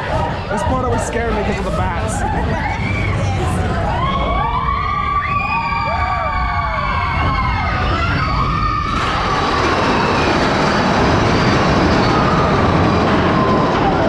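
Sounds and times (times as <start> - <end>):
high wailing tones: 0.0 - 14.0
roller coaster rumbling on track: 0.0 - 14.0.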